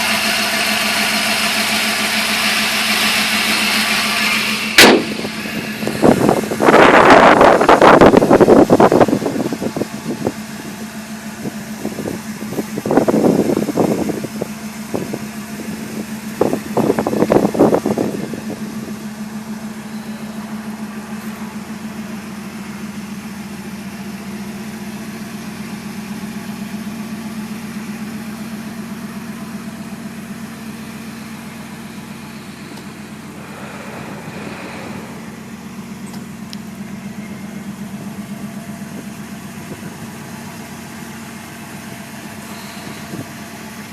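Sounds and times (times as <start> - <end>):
pickup engine idling: 0.0 - 43.9
rough engine noise bursts: 0.0 - 43.9.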